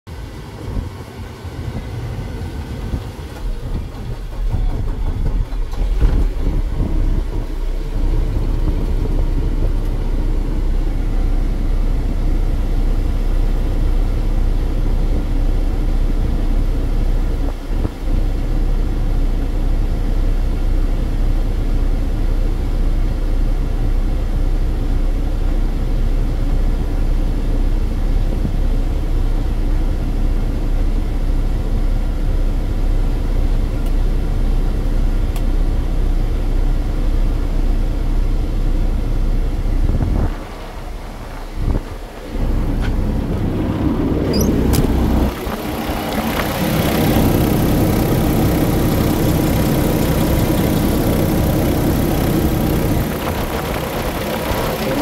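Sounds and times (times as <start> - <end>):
diesel engine idling: 0.1 - 55.0.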